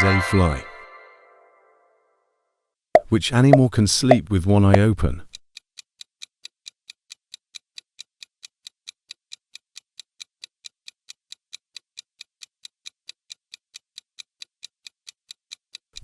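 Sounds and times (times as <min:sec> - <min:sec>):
clock-like ticking: 0:03.0 - 0:16.0.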